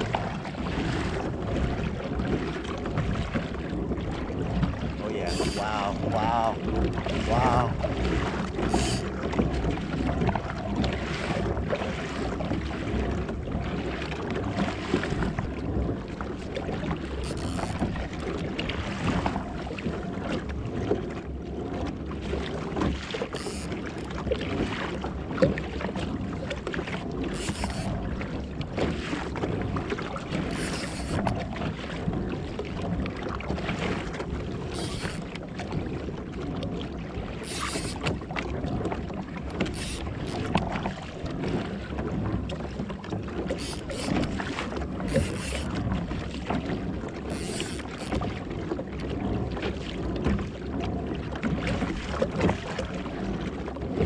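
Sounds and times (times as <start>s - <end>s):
water lapping against kayak hull: 0.0s - 54.0s.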